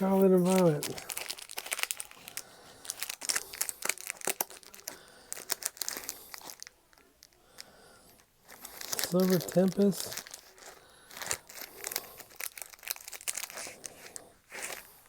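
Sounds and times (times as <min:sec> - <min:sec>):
foil card packs crinkling: 0:00.0 - 0:15.0.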